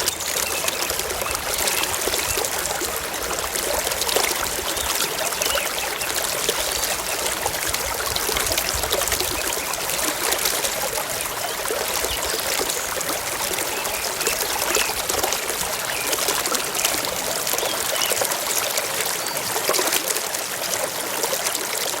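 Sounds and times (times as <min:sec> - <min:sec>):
stream trickling and babbling: 0:00.0 - 0:22.0.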